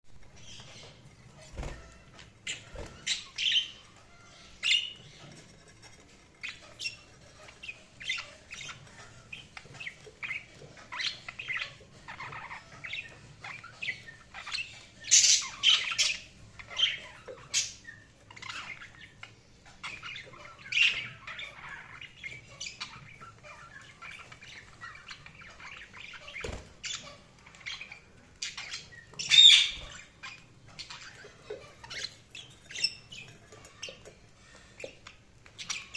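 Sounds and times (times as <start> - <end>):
budgerigars chattering and chirping: 0.2 - 35.9.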